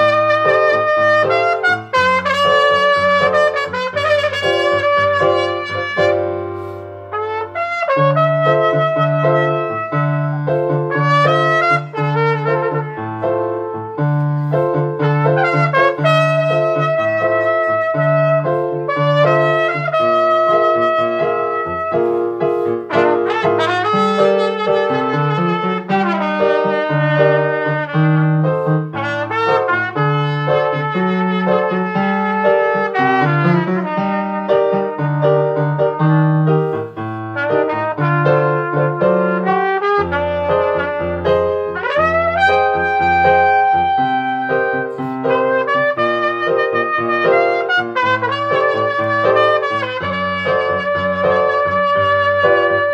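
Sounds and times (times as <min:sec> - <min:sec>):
piano accompaniment: 0:00.0 - 0:52.9
trumpet melody: 0:00.0 - 0:52.9.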